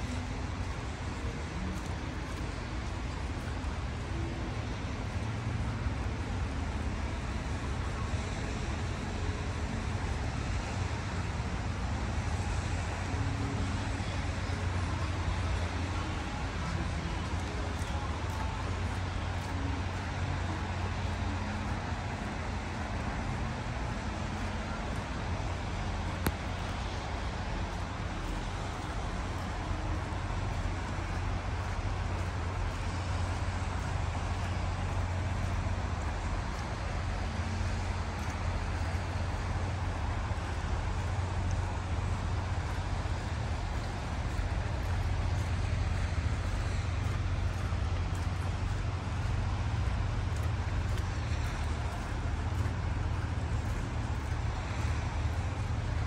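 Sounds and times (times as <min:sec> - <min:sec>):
road traffic rumble and hiss: 0:00.0 - 0:56.0.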